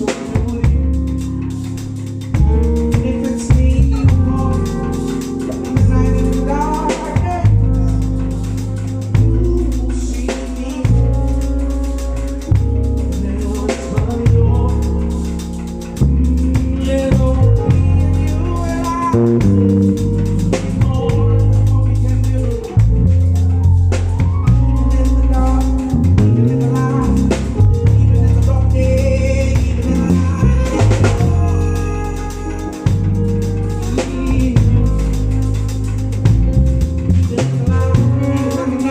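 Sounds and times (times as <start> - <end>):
deep bass line: 0.0 - 38.9
drum kit hits: 0.0 - 38.9
live band playing: 0.0 - 38.9.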